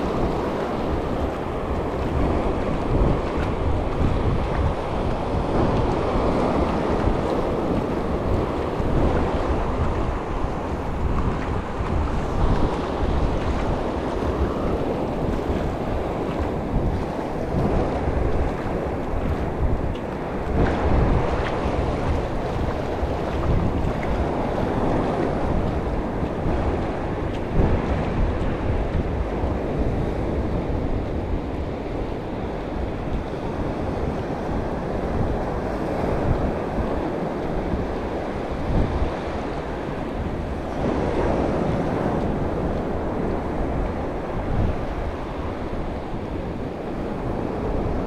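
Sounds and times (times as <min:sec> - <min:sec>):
ocean waves crashing: 0:00.0 - 0:48.0
wind buffeting microphone: 0:00.0 - 0:48.0.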